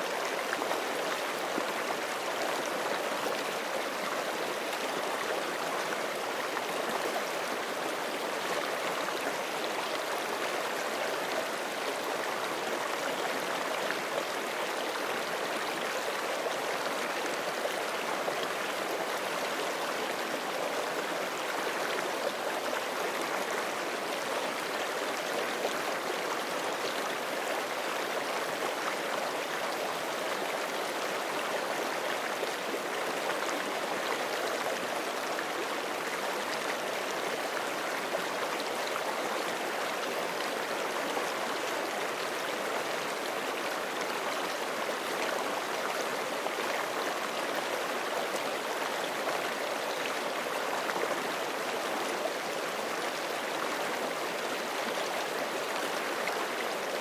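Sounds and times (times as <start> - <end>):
creek flowing over rocks: 0.0 - 57.0.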